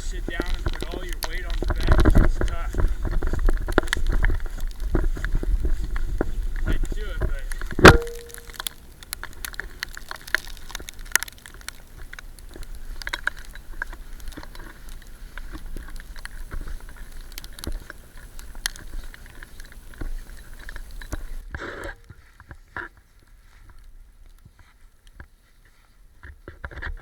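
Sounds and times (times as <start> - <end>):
bicycle tyres crunching snow: 0.0 - 27.0.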